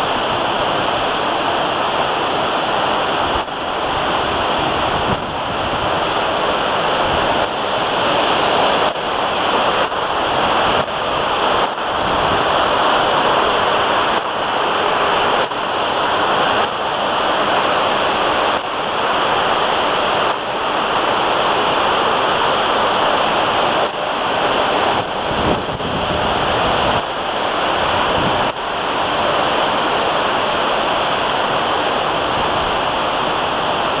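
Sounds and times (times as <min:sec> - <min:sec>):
rush of foaming water: 0:00.0 - 0:34.0.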